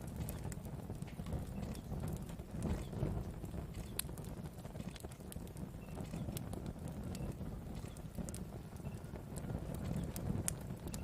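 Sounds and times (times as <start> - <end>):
rumble of flames: 0.0 - 11.0
wood fire crackling and popping: 0.0 - 11.0.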